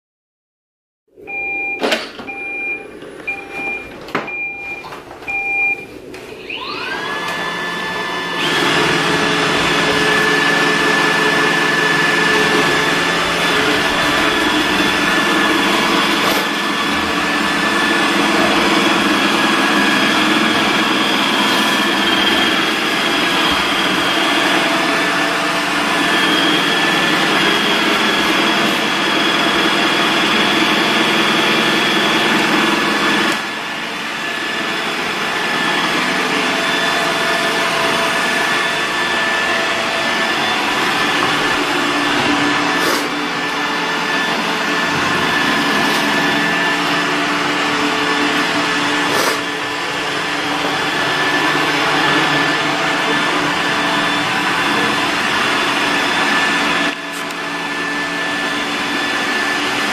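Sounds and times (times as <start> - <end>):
robot vacuum humming and whining: 5.3 - 59.9.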